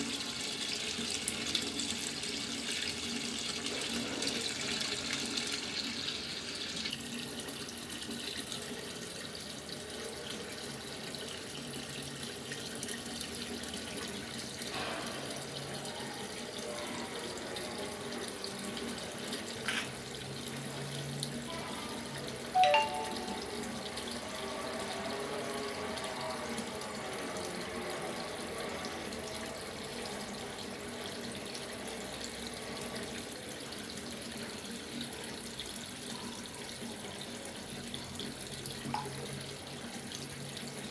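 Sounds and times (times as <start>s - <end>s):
water filling washing machine: 0.0s - 23.3s, 23.9s - 40.9s.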